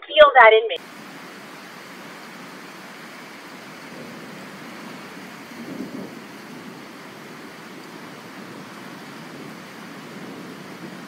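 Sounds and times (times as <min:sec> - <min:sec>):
steady rain falling: 0:00.8 - 0:11.0.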